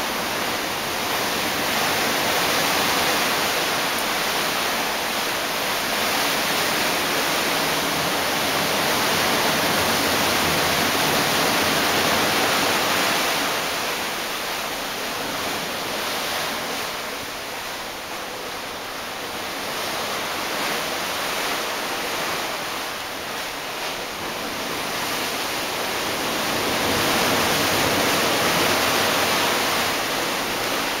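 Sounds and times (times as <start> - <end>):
wind and sea rushing: 0.0 - 31.0.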